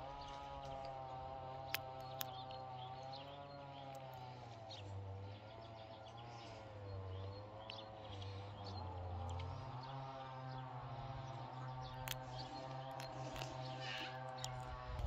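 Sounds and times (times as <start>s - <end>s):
birds chirping: 0.0s - 15.0s
low steady drone: 0.0s - 15.0s.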